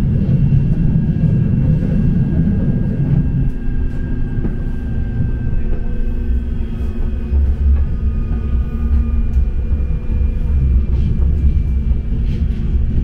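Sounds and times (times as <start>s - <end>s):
faint whining tones: 0.0s - 13.0s
tram low rumble: 0.0s - 13.0s.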